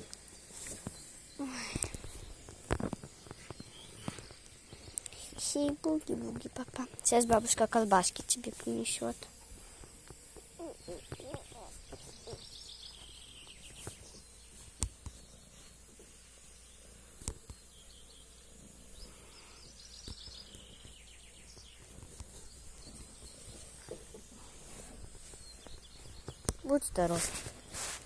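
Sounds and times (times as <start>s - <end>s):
songbird singing: 0.0s - 8.4s, 10.4s - 15.8s, 17.4s - 24.4s, 25.2s - 27.1s
outdoor background noise: 0.0s - 28.0s.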